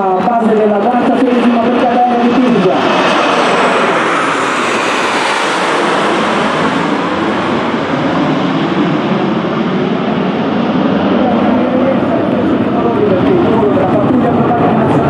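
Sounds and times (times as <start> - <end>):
jet planes flying over: 0.0 - 15.0.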